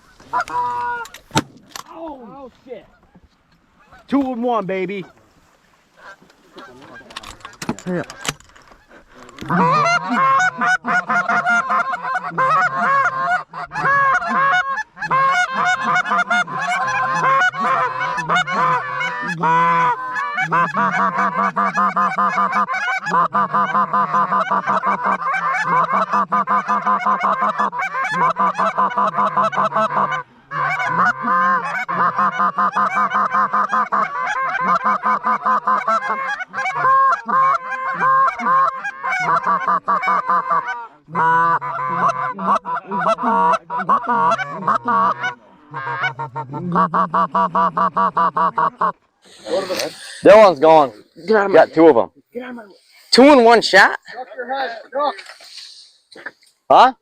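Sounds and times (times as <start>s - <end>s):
geese honking: 0.0s - 1.3s, 3.8s - 4.2s, 4.8s - 57.0s.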